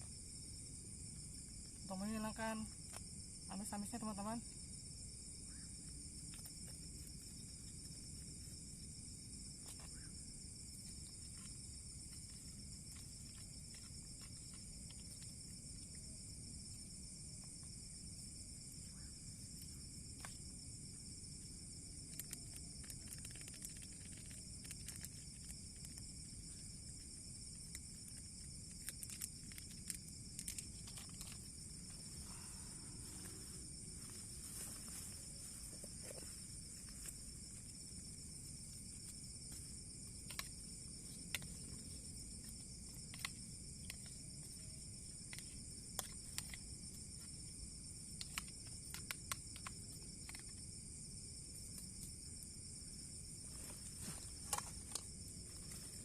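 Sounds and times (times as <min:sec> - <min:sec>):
shrill insect chorus: 0:00.0 - 0:56.0.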